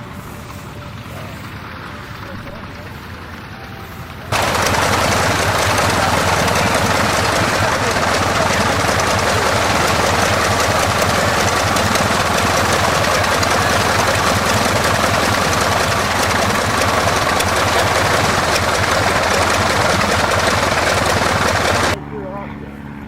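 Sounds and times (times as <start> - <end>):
piston engine running: 0.0 - 23.0.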